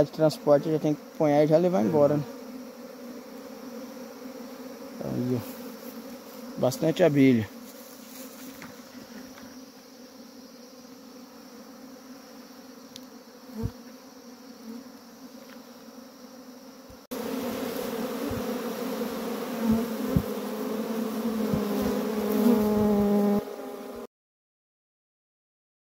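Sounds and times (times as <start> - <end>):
bees droning near microphone: 0.0 - 24.1
honeybees buzzing: 0.0 - 24.1.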